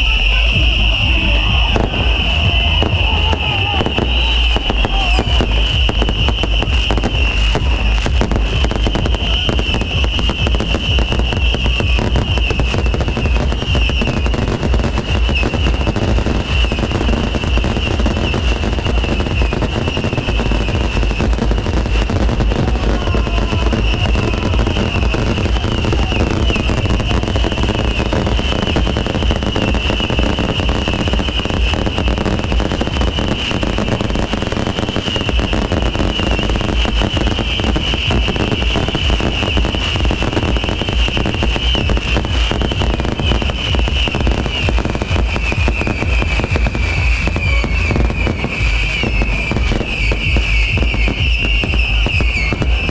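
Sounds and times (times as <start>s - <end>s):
firecrackers crackling: 0.0s - 52.9s.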